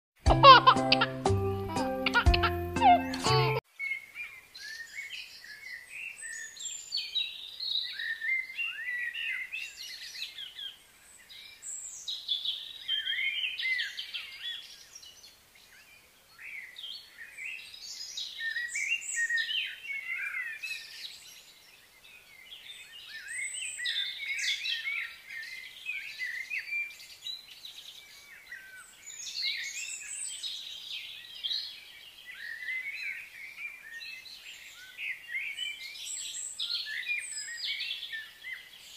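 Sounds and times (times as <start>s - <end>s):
small birds chirping and twittering: 0.6s - 38.9s.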